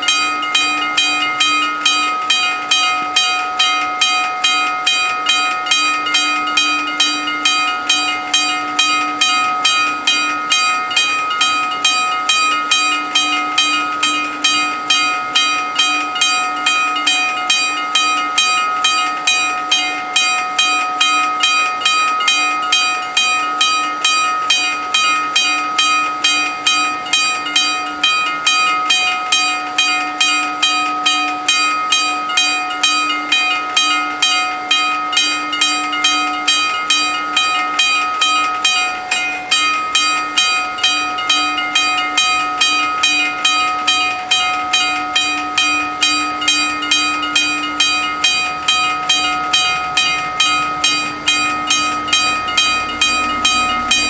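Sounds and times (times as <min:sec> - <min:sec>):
level crossing warning bells: 0:00.0 - 0:54.0.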